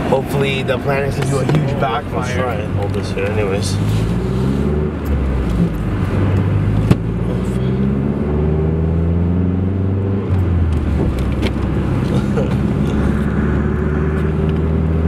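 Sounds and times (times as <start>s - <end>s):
car engine revving under full throttle: 0.0s - 15.0s.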